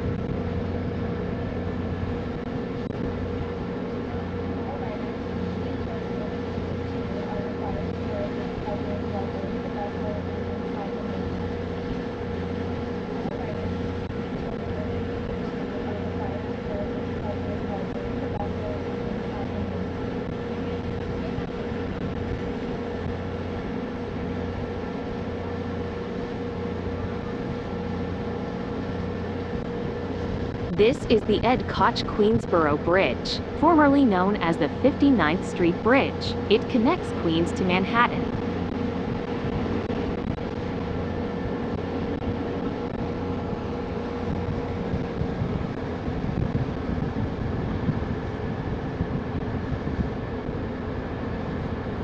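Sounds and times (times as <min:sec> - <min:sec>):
faint steady whine: 0:00.0 - 0:52.0
ferry engines droning: 0:00.0 - 0:52.0.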